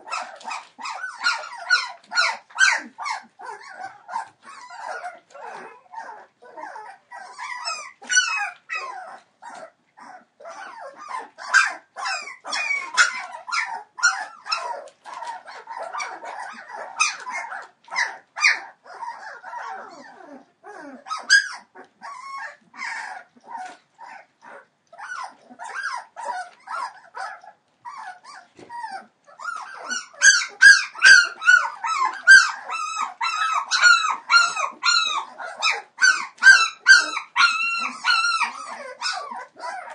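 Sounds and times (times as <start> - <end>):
puppies whining and squeaking: 0.0 - 39.9.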